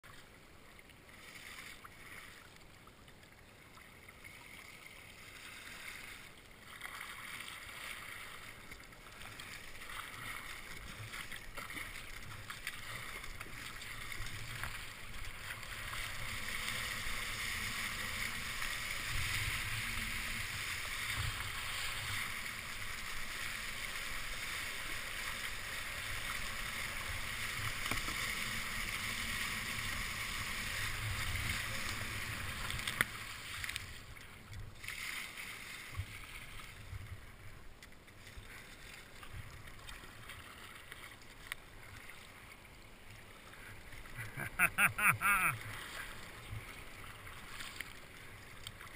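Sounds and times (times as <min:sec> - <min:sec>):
paddle strokes splashing: 0:03.6 - 0:48.9.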